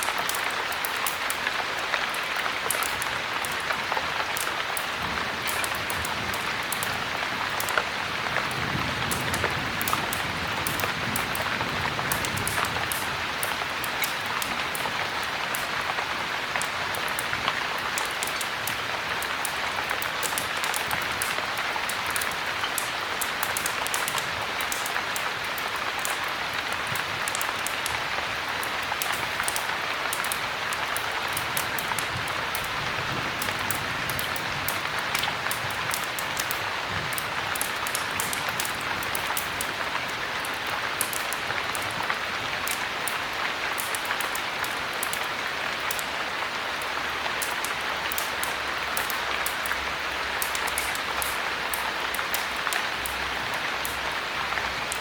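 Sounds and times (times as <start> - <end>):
heavy rain falling: 0.0 - 55.0
wood fire crackling: 0.0 - 55.0.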